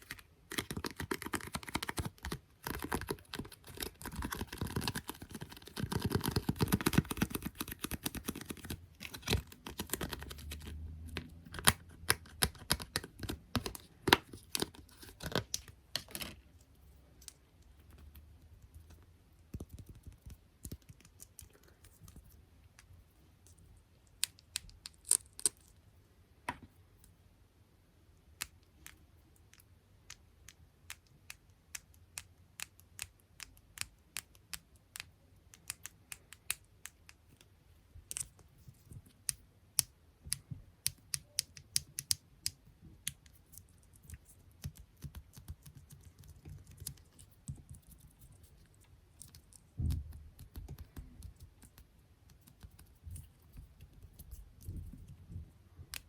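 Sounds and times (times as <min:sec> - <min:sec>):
tapping and scratching on small objects: 0:00.0 - 0:27.2, 0:28.2 - 0:56.0.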